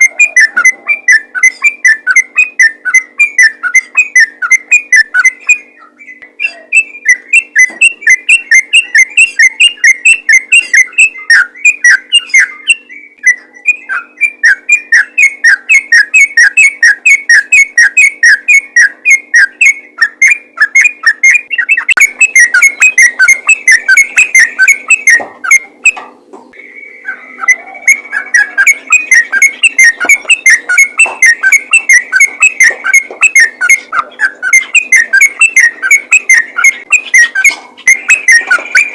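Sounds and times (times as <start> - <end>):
bird singing rapid whistled notes: 0.0 - 38.9.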